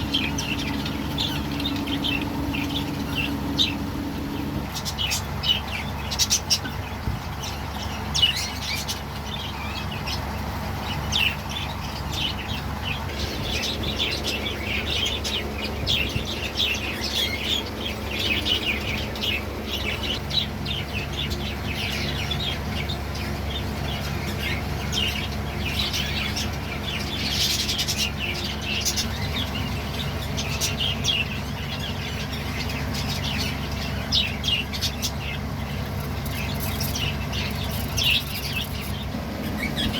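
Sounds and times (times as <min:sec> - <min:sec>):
budgerigars chirping and chattering: 0:00.0 - 0:39.9
steady low hum: 0:00.0 - 0:39.9.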